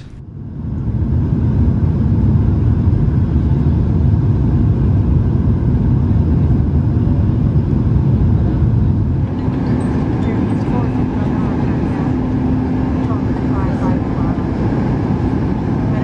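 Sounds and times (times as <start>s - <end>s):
aircraft engine and airflow rumble: 0.0s - 16.0s.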